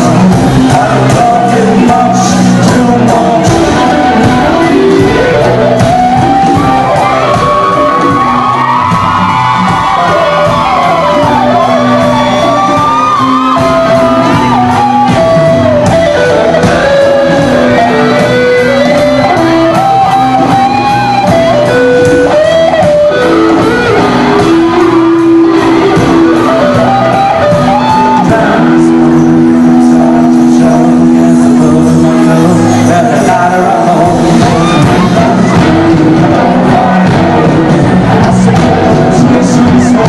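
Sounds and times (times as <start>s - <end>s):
bass: 0.0s - 40.0s
drums: 0.0s - 40.0s
electric guitar melody: 0.0s - 40.0s.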